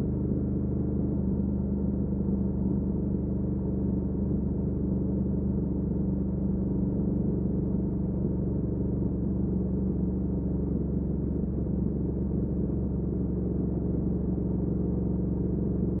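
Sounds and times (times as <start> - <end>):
motorcycle engine idling: 0.1 - 16.0.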